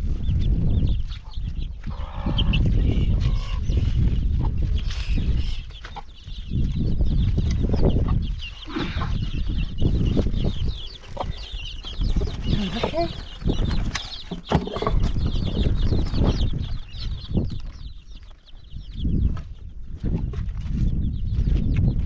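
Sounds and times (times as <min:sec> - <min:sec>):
chicks peeping: 0:00.0 - 0:22.0
chickens clucking: 0:00.1 - 0:21.9.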